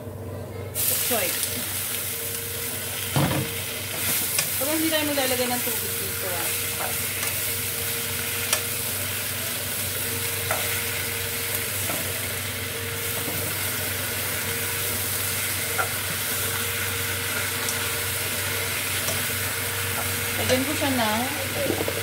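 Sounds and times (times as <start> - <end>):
vegetables sizzling in hot oil: 0.8 - 22.0.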